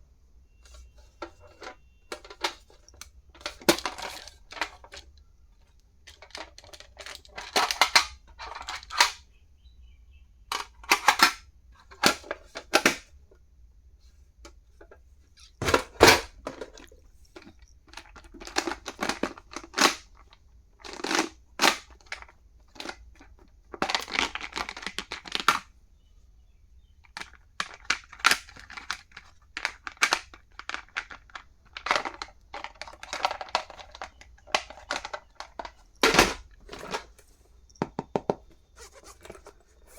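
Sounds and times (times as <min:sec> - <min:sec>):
plastic items clicking: 0:00.7 - 0:09.2, 0:14.4 - 0:25.7, 0:27.0 - 0:39.9.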